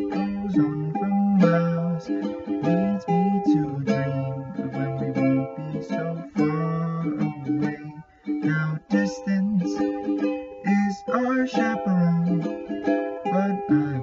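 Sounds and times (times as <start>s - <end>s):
man singing slow love song: 0.0s - 12.6s, 13.2s - 14.0s
ukulele strumming: 0.0s - 14.0s.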